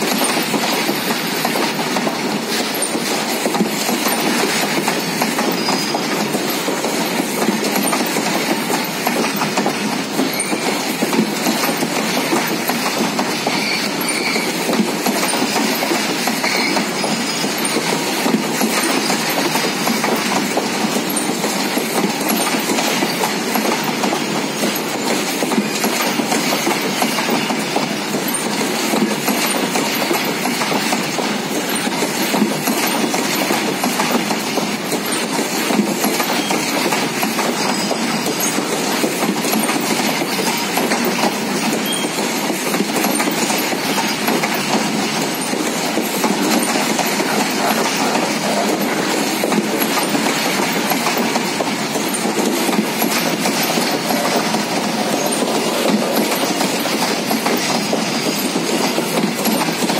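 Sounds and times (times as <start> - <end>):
freight train rumbling past: 0.0 - 59.9
steel wheels clattering on rails: 0.0 - 59.9.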